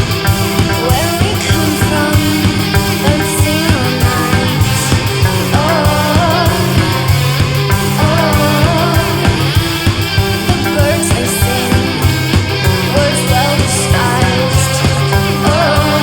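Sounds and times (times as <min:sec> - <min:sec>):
driving drum beat: 0:00.0 - 0:16.0
heavy rock music: 0:00.0 - 0:16.0.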